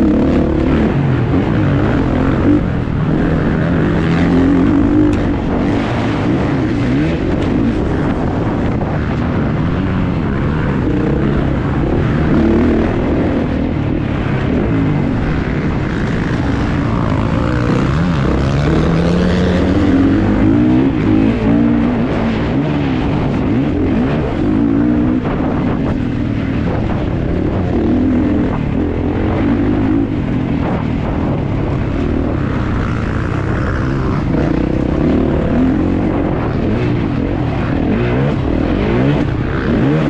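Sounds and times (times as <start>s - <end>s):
motorcycle engine revving: 0.0s - 40.0s
rough track noise: 0.0s - 40.0s
wind noise: 0.0s - 40.0s.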